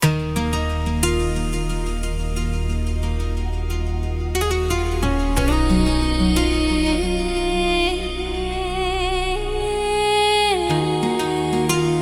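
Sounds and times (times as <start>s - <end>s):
sustained chords over deep bass: 0.0s - 11.8s.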